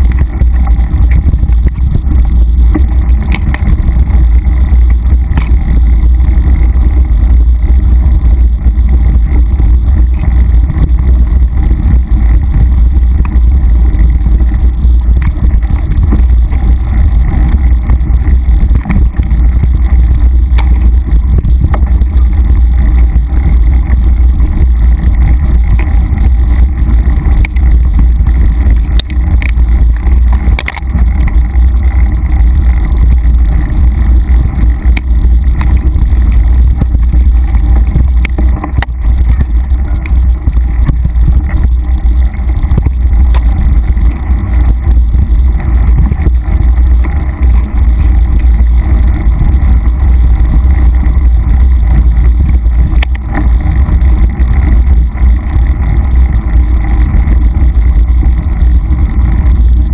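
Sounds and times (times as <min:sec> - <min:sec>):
bike clicks and rattles: 0:00.0 - 0:59.9
wind rumble on microphone: 0:00.0 - 0:59.9.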